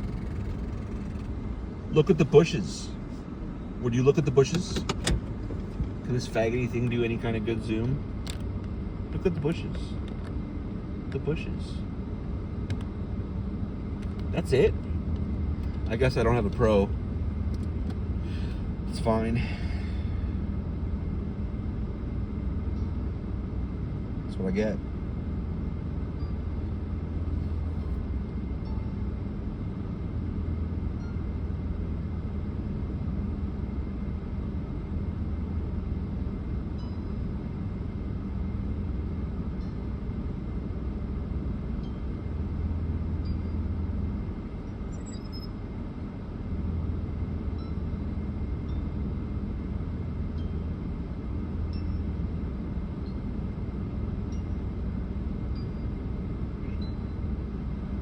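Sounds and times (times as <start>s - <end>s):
car engine rumble from inside: 0.0s - 58.0s.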